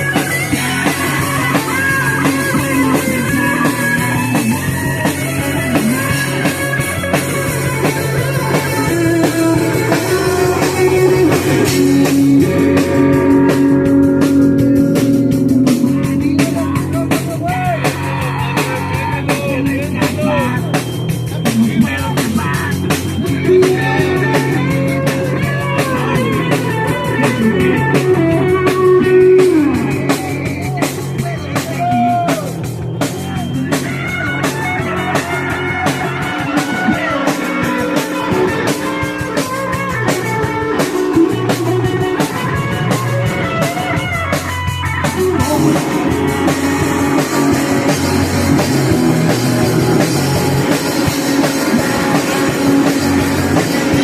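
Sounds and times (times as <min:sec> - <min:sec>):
punk rock band playing live: 0:00.0 - 0:54.0.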